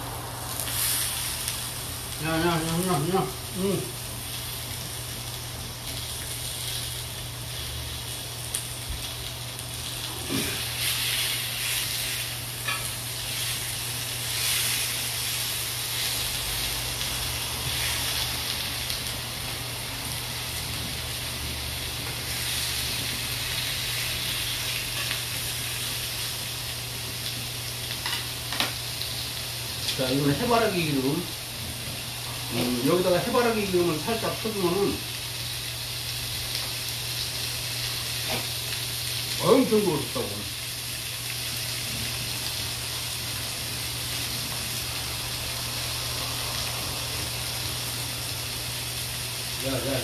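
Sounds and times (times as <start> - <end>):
meat sizzling on a grill pan: 0.0 - 50.0.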